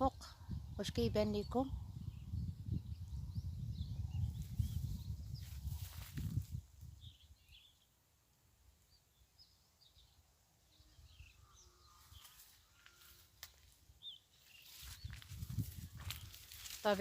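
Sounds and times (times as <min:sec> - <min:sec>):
small birds chirping: 0:00.0 - 0:08.0, 0:08.6 - 0:17.0.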